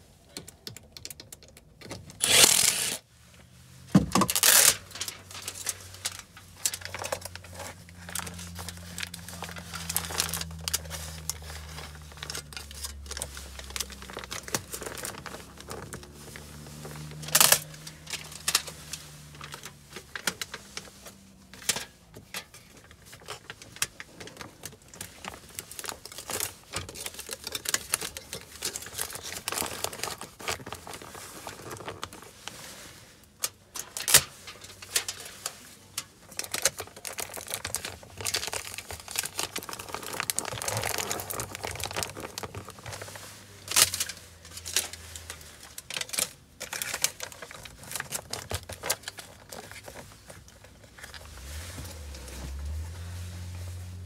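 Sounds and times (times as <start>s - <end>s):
foil insulation crinkling: 2.1s - 3.0s, 3.8s - 54.0s.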